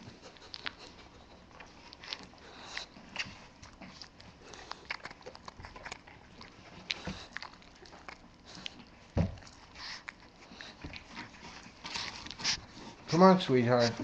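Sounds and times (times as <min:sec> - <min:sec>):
puppy crunching kibble: 0:00.0 - 0:14.0.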